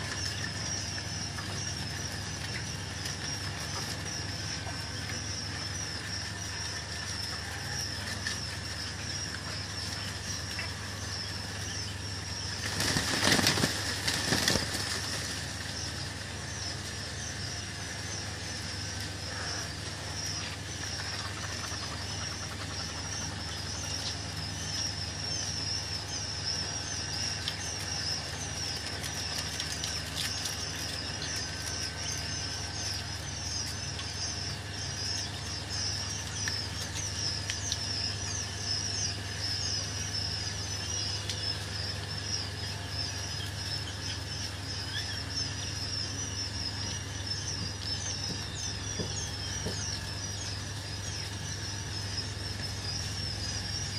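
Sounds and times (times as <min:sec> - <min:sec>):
quail chirping: 0:00.0 - 0:53.9
steady low hum: 0:00.0 - 0:53.9.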